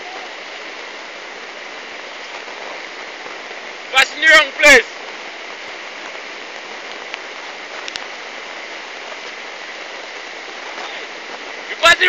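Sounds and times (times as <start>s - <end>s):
rushing flood water: 0.0s - 12.0s.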